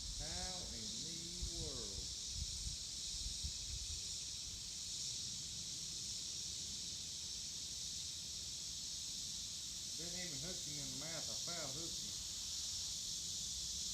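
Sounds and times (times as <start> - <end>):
insect chorus hissing: 0.0 - 13.9.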